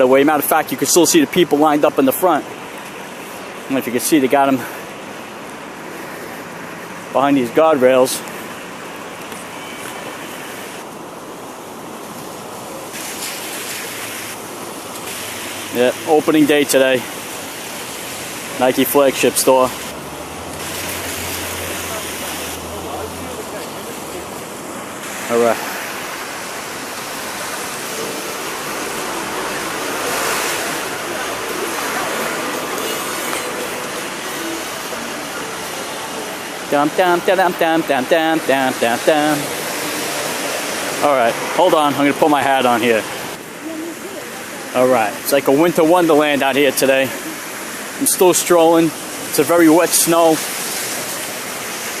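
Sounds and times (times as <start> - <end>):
city street noise in snowfall: 0.0 - 52.0
traffic on slushy pavement: 0.0 - 52.0.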